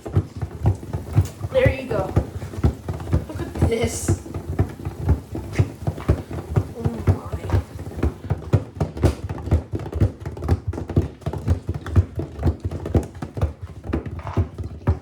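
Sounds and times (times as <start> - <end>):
objects clattering in washer drum: 0.0 - 15.0.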